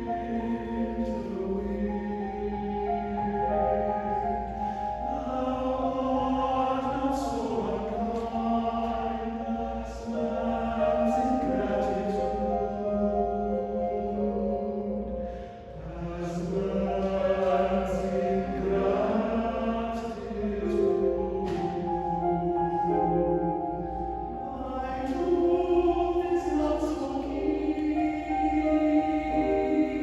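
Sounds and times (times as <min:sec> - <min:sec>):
choir singing in parts: 0:00.0 - 0:30.0.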